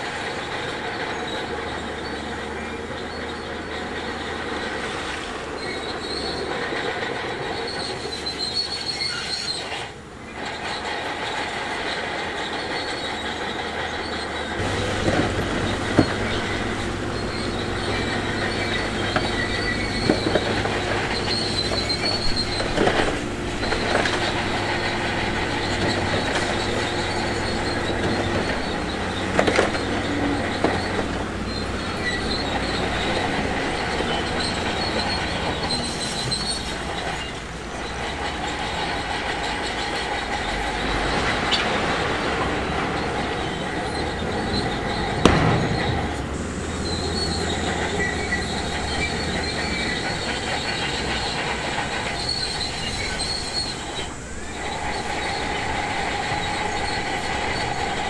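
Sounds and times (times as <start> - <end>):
diesel engine running: 0.0 - 58.0
steel tracks squealing and clanking: 0.0 - 58.0.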